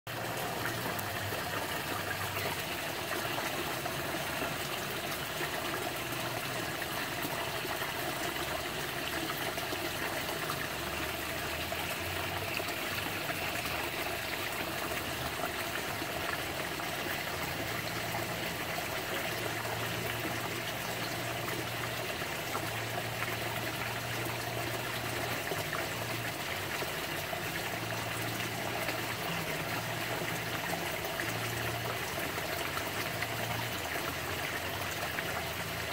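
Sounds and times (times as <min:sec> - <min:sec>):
small waterfall splashing: 0:00.1 - 0:35.9.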